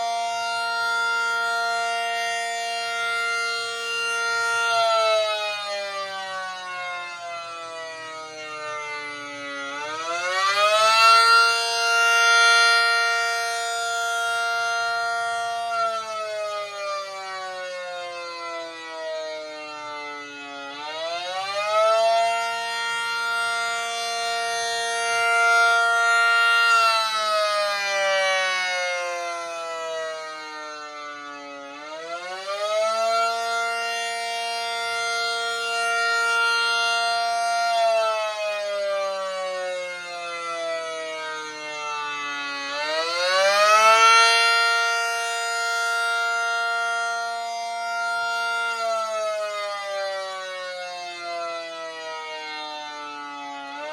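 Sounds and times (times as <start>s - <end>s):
siren wailing: 0.0s - 53.9s.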